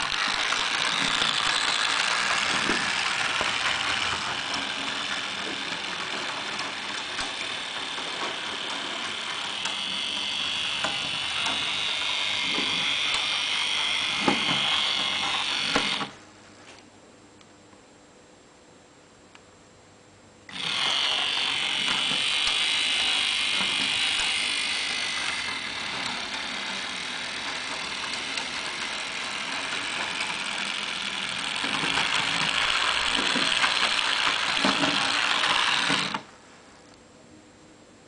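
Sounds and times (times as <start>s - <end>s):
model tram motor whirring: 0.0s - 16.2s, 20.5s - 36.3s.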